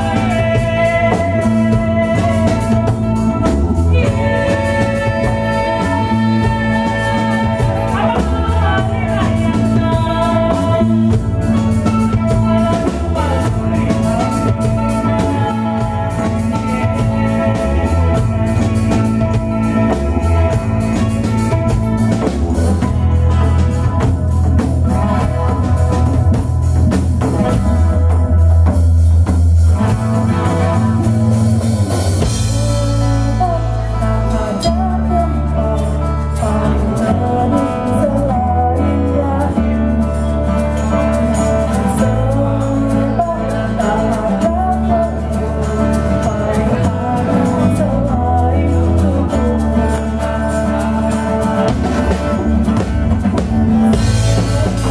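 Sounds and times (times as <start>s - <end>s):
woman singing: 0.0s - 24.0s, 32.2s - 54.9s
acoustic guitar: 0.0s - 54.9s
drums: 0.0s - 54.9s
electric bass: 0.0s - 54.9s.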